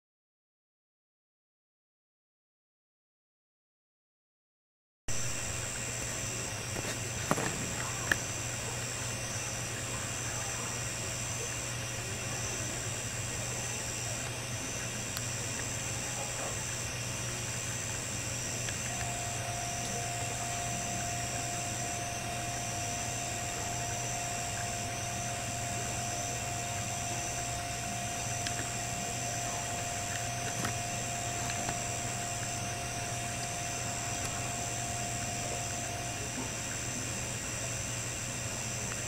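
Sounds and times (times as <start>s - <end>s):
steady hum and hiss: 5.1s - 39.0s.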